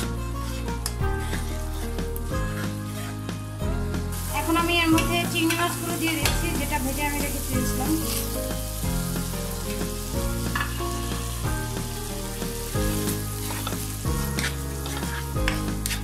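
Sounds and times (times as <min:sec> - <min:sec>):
background music with low notes: 0:00.0 - 0:16.0
food sizzling in a frying pan: 0:00.0 - 0:16.0
spatula stirring in pan: 0:00.1 - 0:16.0.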